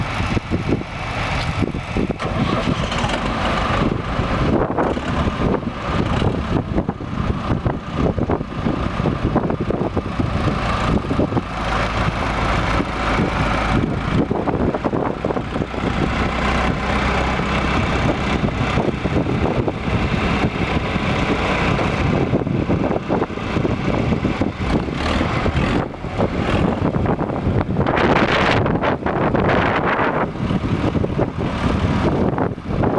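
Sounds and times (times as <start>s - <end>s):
tractor diesel engine running: 0.0s - 32.9s
wind buffeting microphone: 0.0s - 32.9s.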